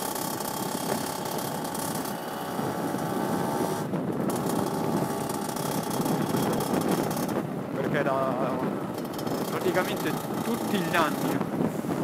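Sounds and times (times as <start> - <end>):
two-stroke moped engine buzzing: 0.0 - 12.0.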